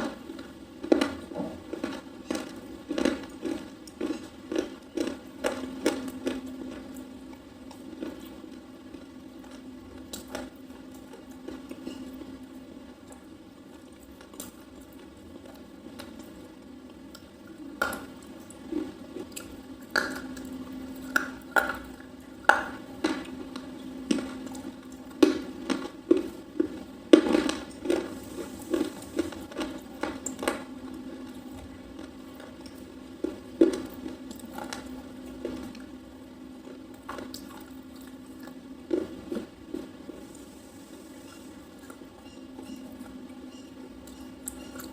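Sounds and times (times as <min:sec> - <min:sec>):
crunching while chewing: 0:00.0 - 0:44.9.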